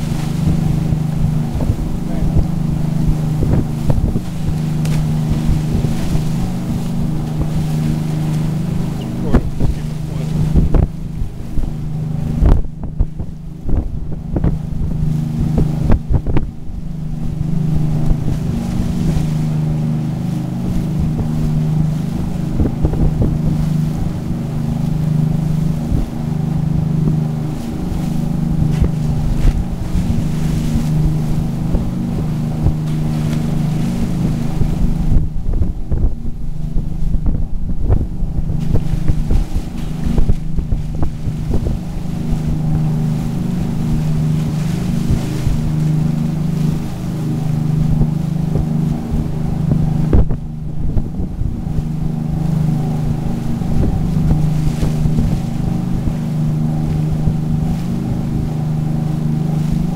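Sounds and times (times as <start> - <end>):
churning wake rushing: 0.0 - 59.9
wind on microphone: 0.0 - 59.9.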